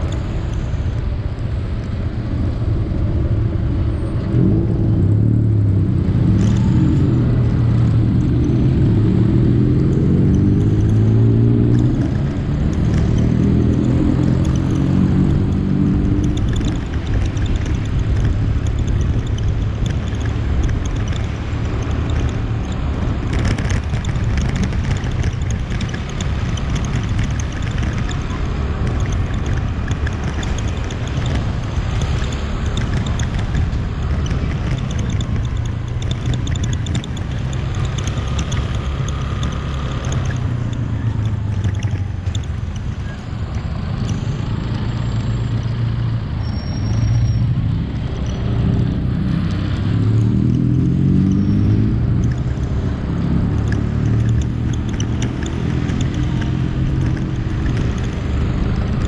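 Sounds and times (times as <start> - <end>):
city traffic: 0.0 - 59.0
motorbike engine drone: 0.0 - 59.0
wind and road noise: 0.0 - 59.0.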